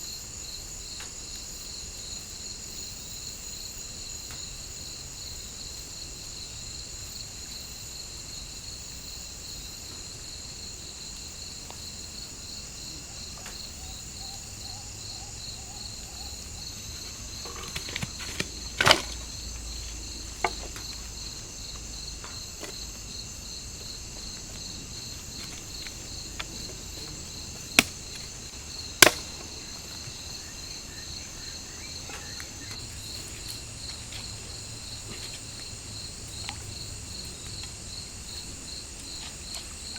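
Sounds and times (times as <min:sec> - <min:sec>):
forest insects chirring: 0:00.0 - 0:39.9.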